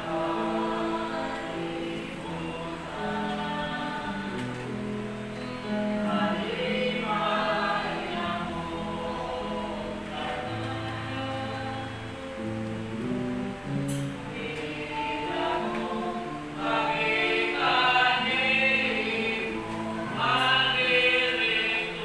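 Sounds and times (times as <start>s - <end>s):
group singing devotional song: 0.0s - 12.3s, 14.2s - 22.0s.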